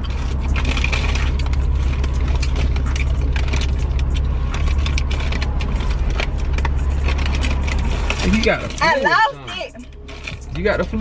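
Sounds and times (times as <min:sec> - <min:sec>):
small clicks and rattles: 0:00.0 - 0:09.0
road and engine rumble: 0:00.0 - 0:11.0.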